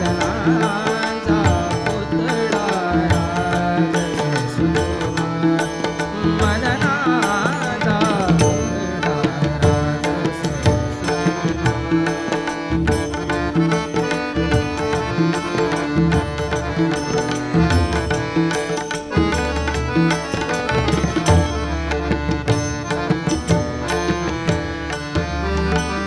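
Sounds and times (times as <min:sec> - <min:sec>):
harmonium and drone: 0:00.0 - 0:26.0
man singing ornamented melody: 0:00.0 - 0:26.0
tabla and hand cymbals: 0:00.0 - 0:26.0.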